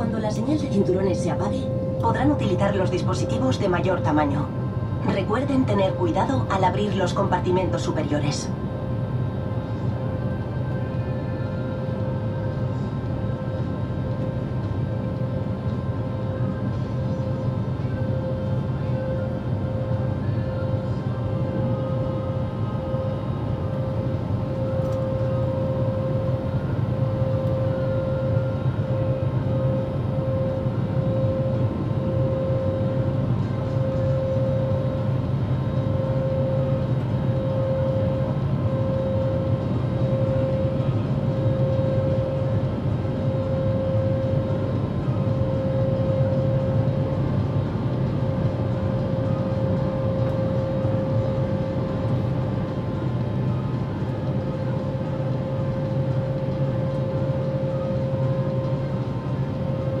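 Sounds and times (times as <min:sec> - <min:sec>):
constant whine: 0:00.0 - 1:00.0
jet engine and airflow drone: 0:00.0 - 1:00.0.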